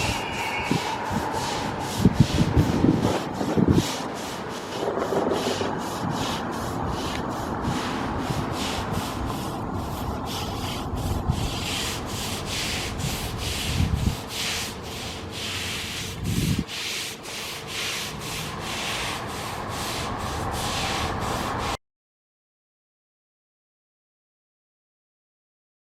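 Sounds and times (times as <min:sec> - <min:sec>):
steam locomotive exhaust chuffs: 0:00.0 - 0:21.8.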